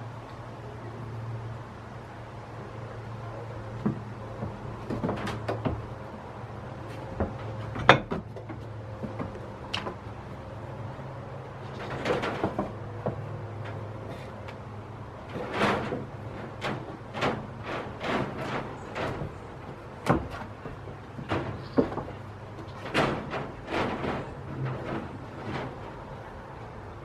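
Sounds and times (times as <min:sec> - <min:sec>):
goat hooves on wooden boards: 0:03.6 - 0:27.0.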